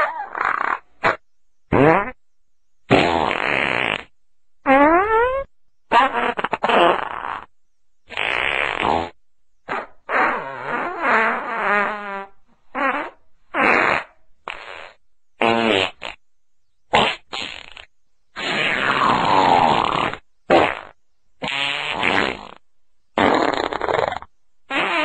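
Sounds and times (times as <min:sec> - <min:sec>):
fart sounds: 0:00.0 - 0:02.2, 0:02.9 - 0:07.5, 0:08.1 - 0:16.2, 0:16.9 - 0:22.6, 0:23.2 - 0:25.0.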